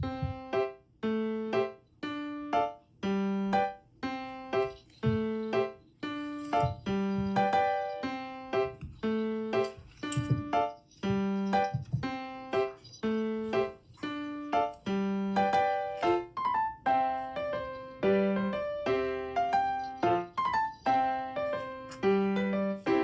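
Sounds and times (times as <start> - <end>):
bouncy piano tune: 0.0 - 23.0.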